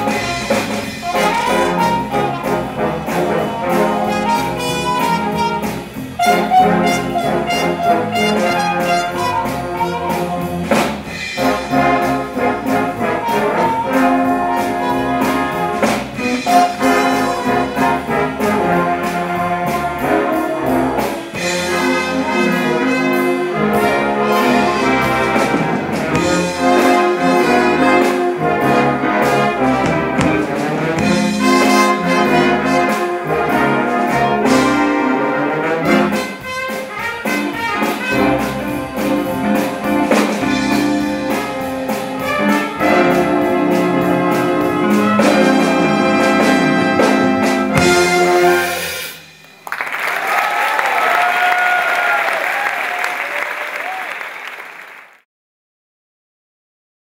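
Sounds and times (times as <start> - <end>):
brass swing band playing: 0.0 - 49.7.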